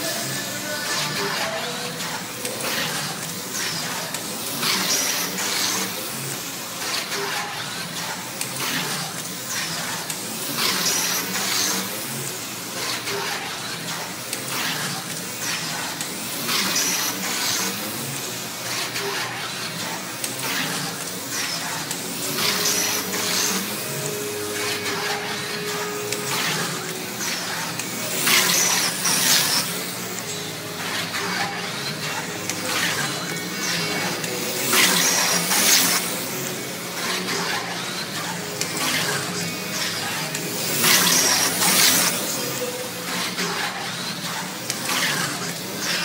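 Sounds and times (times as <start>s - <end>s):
slot car motor whine: 0.0s - 46.0s.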